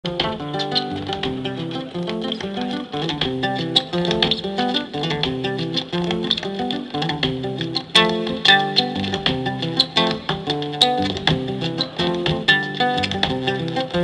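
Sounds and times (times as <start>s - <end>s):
cajon: 0.0s - 14.0s
guitar picking quick melody: 0.0s - 14.0s
dance footwork taps: 0.1s - 14.0s.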